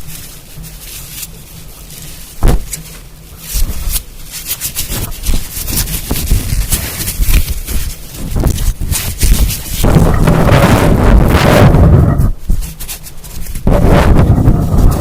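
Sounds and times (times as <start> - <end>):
soft rubbing: 0.0 - 15.0.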